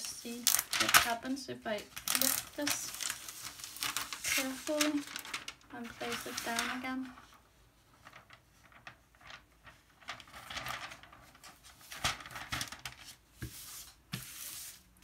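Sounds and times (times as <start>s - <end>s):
plastic film rustling: 0.0s - 14.8s.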